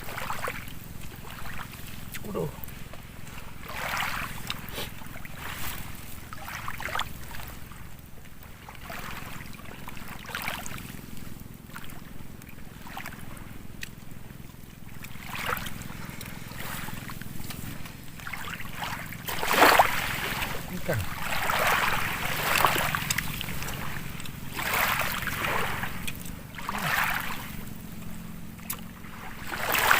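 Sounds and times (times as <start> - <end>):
steady low hum: 0.0 - 29.9
water splashing and lapping: 0.0 - 29.9.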